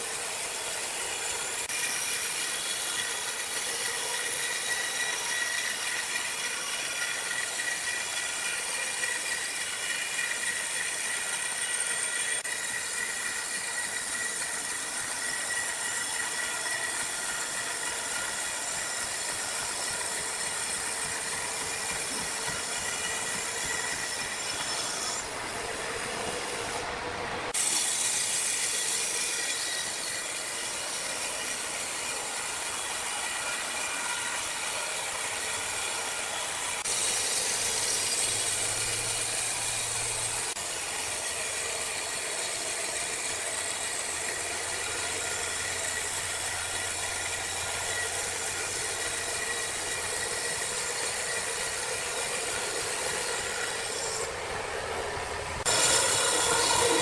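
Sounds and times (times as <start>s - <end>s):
sawmill machinery whine: 0.0s - 57.0s.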